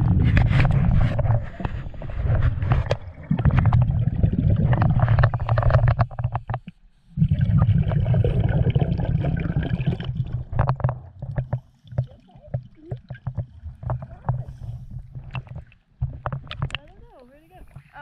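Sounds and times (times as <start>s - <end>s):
underwater exhaust bubbles: 0.0s - 18.0s.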